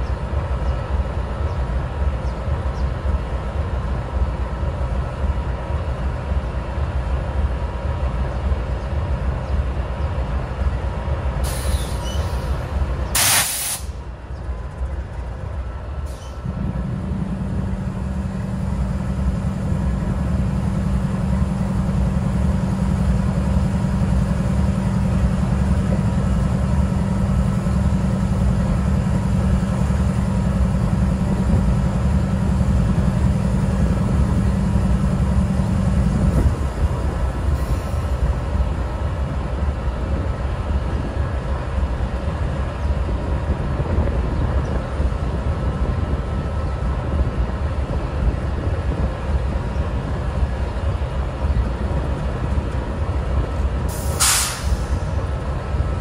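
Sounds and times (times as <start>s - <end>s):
locomotive idling rumble: 0.0s - 56.0s.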